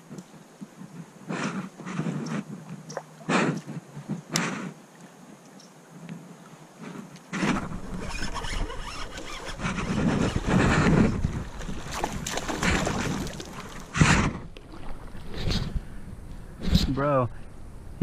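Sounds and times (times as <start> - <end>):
water noise around kayak: 0.0 - 17.1
rumbling wind: 0.0 - 18.0.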